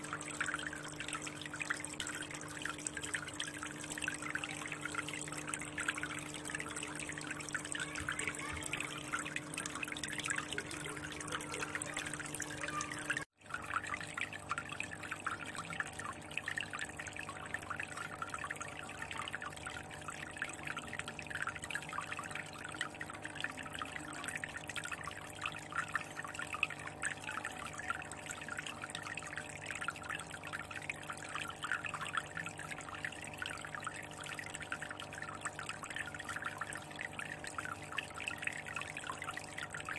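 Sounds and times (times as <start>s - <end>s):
low steady hum: 0.0s - 39.9s
water trickling and splashing: 0.0s - 39.9s.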